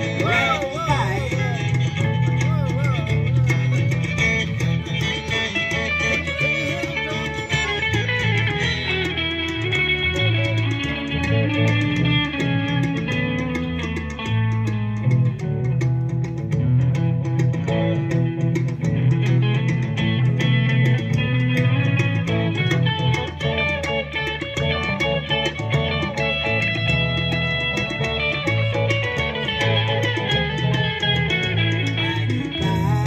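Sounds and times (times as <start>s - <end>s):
bass line: 0.0s - 33.0s
electric guitar: 0.0s - 33.0s
live band playing amplified music: 0.0s - 33.0s.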